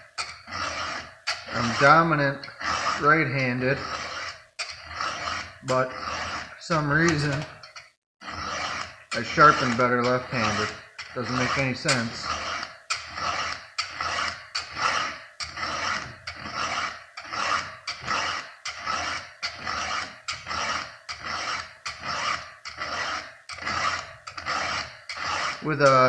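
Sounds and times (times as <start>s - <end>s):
file rasping across chainsaw tooth: 0.0s - 26.0s.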